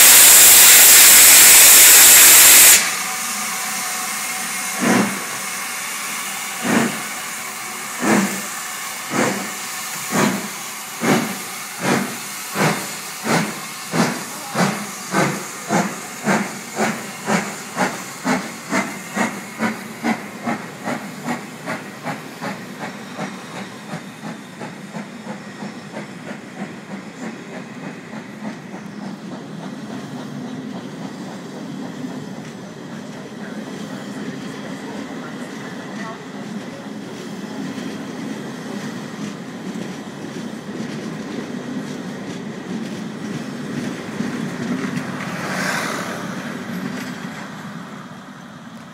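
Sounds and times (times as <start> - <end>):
steam hissing: 0.0 - 48.8
steam locomotive exhaust chuffing: 0.0 - 48.9.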